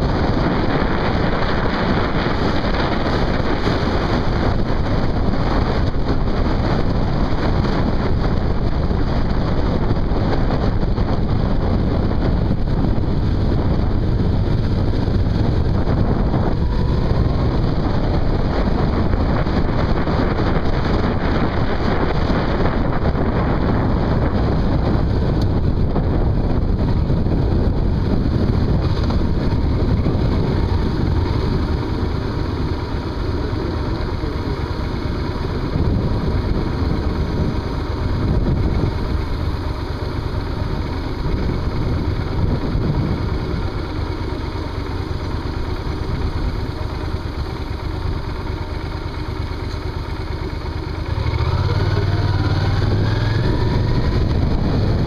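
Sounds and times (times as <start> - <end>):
motorcycle running: 0.0 - 55.0
wind rushing over microphone: 0.0 - 55.0.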